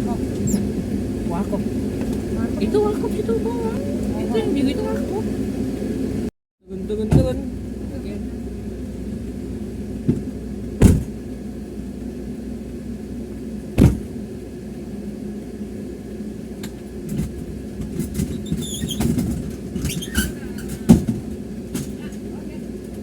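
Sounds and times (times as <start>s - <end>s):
ambulance low rumble: 0.0s - 23.0s.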